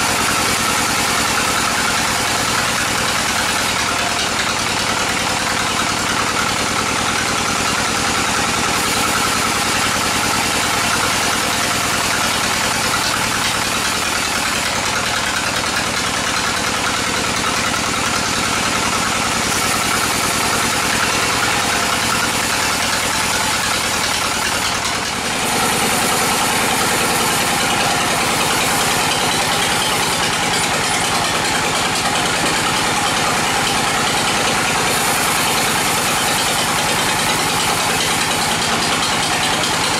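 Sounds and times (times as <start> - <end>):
bandsaw droning with high whine: 0.0 - 39.9.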